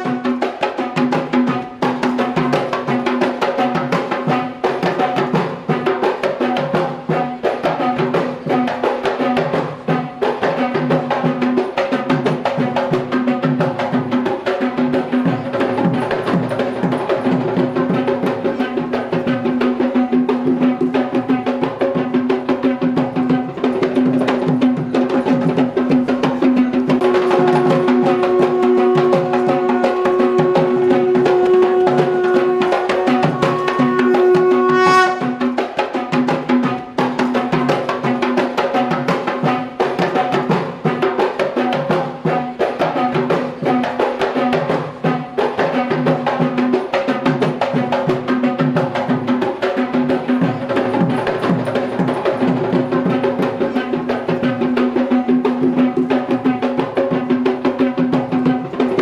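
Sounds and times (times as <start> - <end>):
fast dense drumming: 0.0 - 59.0.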